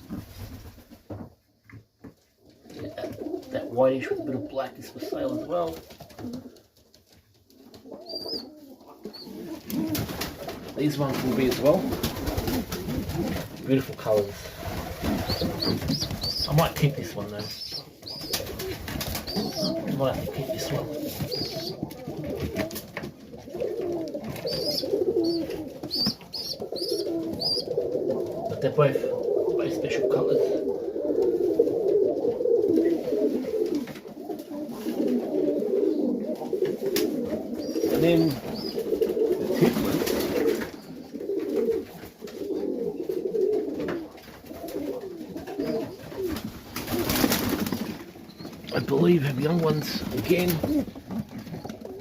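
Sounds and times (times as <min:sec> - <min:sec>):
pigeons cooing: 0:02.5 - 0:06.8, 0:07.5 - 0:52.0.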